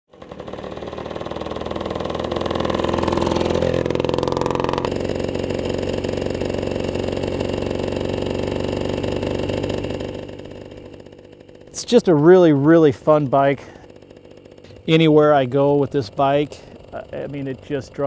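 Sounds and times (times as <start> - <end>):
two-stroke motorcycle engine: 0.1 - 18.0.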